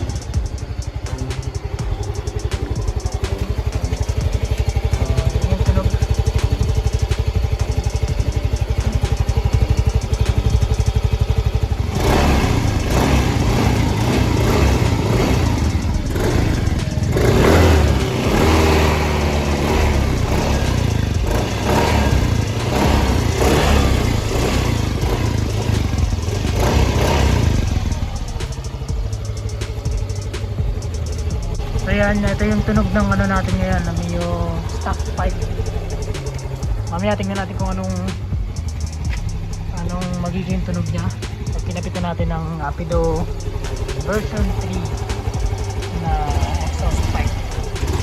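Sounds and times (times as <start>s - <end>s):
scooter engine idling and revving: 0.0s - 48.0s.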